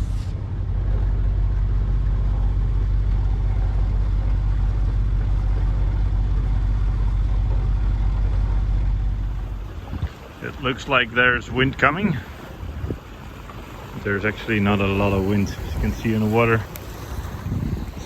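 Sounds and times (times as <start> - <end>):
boat engine running steadily: 0.0 - 18.0.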